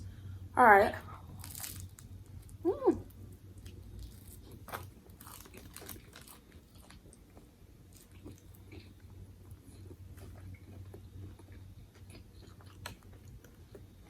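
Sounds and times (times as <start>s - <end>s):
chewing crunchy food: 1.2s - 14.0s.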